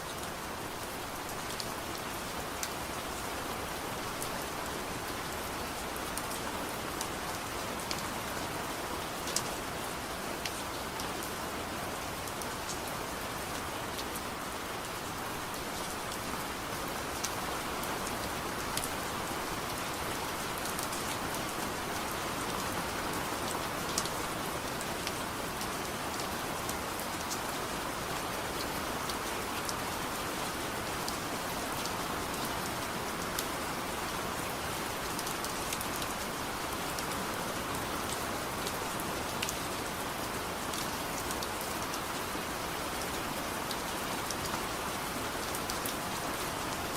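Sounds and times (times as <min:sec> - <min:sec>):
soft rain falling: 0:00.0 - 0:46.9.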